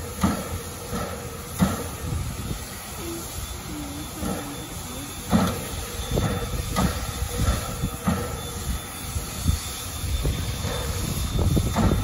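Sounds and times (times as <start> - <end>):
steady steam hiss: 0.0 - 12.0
steam locomotive chuffs: 0.0 - 12.0.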